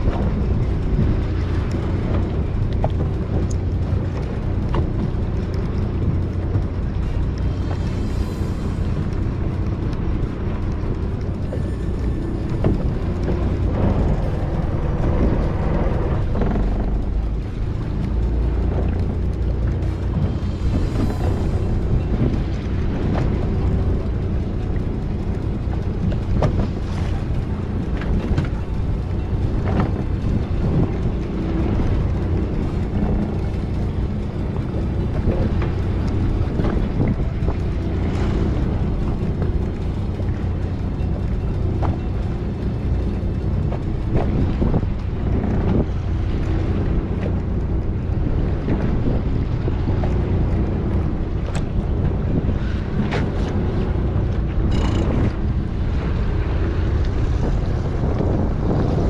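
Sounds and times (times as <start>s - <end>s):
boat engine running: 0.0s - 59.0s
wind on microphone: 0.0s - 59.0s.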